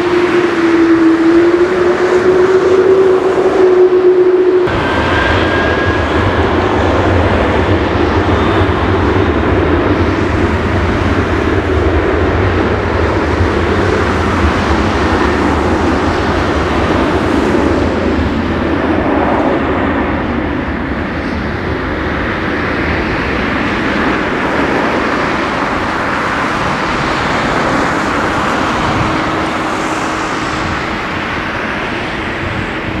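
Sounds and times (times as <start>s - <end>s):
jet airliner taking off: 0.0s - 33.0s.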